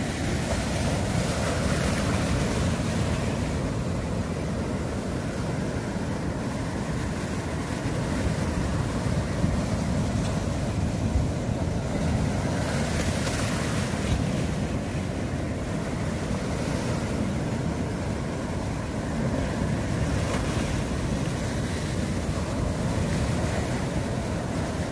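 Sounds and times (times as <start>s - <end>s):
surf breaking against shore: 0.0s - 24.9s.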